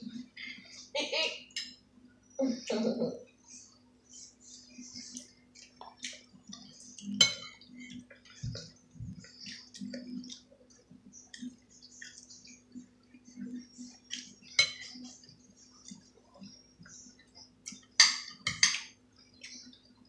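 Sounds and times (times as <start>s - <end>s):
steady low hum: 0.0s - 20.0s
soft chewing: 3.3s - 20.0s.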